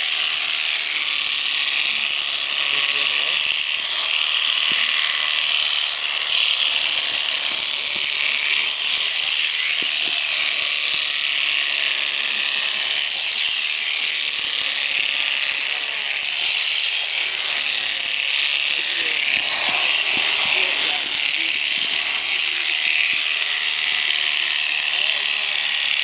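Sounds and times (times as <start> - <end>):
electric shears buzzing: 0.0 - 26.0.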